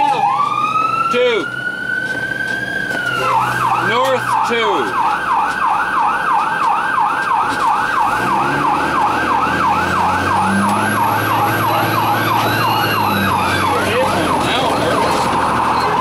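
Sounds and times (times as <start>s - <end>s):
fire truck siren yelping: 0.0s - 16.0s.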